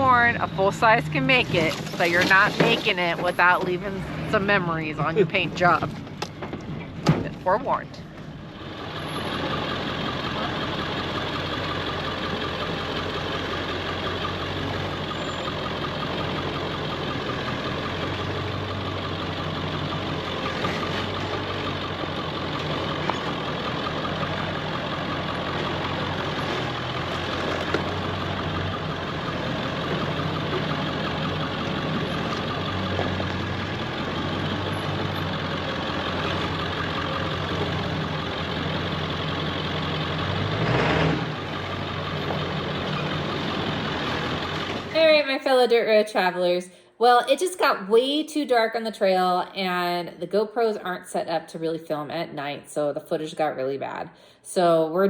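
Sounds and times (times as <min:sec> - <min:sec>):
truck engine idling: 0:00.0 - 0:45.7.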